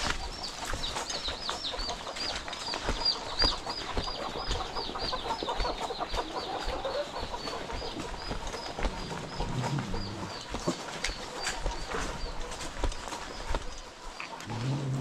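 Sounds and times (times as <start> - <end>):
chicks peeping: 0.0 - 14.7
chickens clucking: 0.0 - 15.0.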